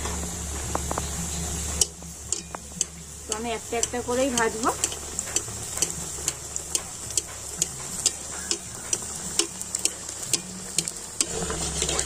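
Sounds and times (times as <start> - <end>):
deep-frying sizzle with crackling pops: 0.0 - 12.0.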